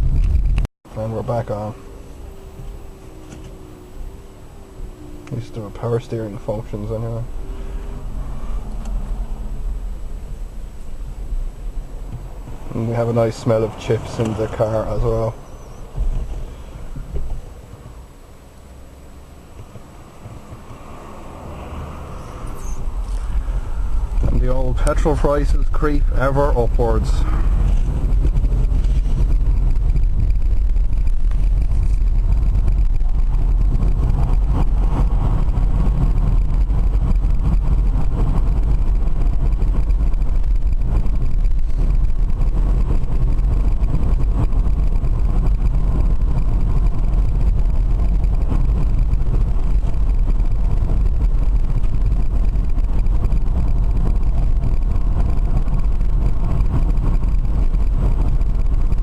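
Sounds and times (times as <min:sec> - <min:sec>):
road and wind noise in car cabin: 0:00.0 - 0:59.0.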